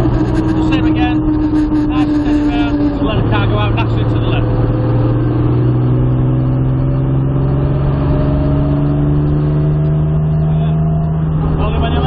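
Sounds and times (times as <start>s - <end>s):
car engine revving up: 0.0s - 12.0s.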